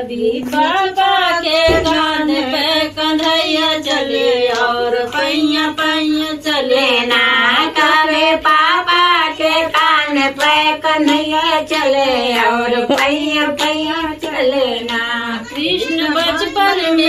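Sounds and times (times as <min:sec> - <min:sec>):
women singing devotional song: 0:00.0 - 0:17.0.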